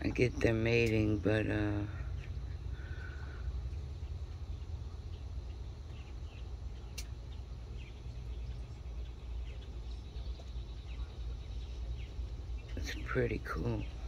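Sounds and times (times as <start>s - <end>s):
low outdoor rumble: 0.0s - 14.0s
faint bird chirps: 1.8s - 14.0s.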